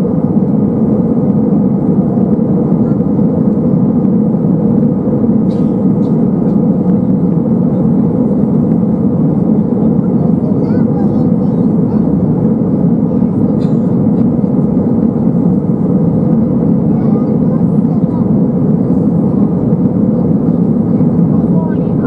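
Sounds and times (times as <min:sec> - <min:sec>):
aircraft cabin engine roar: 0:00.0 - 0:22.0.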